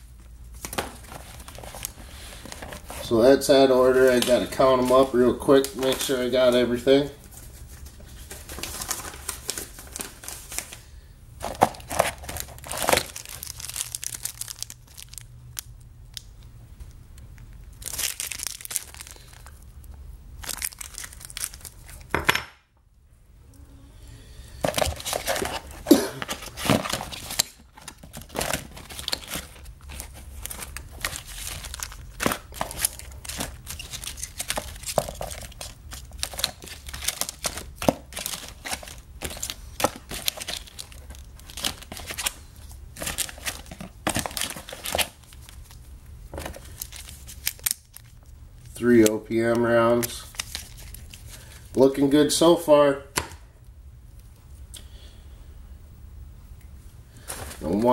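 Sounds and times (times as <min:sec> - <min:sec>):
plastic bags crinkling: 0:00.1 - 0:16.3, 0:17.6 - 0:22.1, 0:24.5 - 0:52.0.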